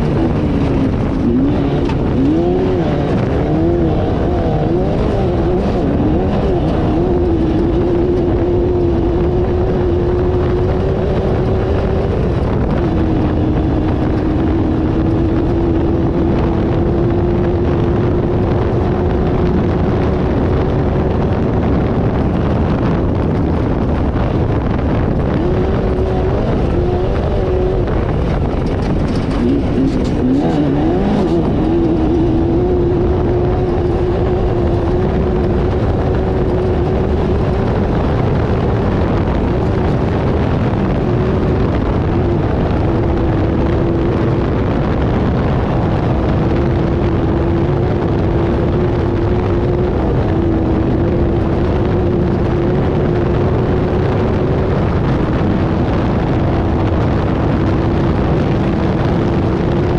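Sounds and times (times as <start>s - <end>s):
race car engine running hard: 0.0s - 59.9s
rushing noise: 0.0s - 59.9s.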